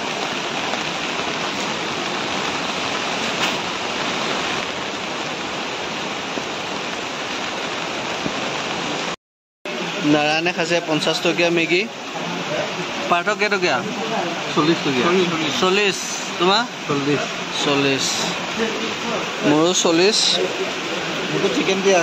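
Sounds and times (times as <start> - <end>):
heavy falling water hiss: 0.0 - 22.0.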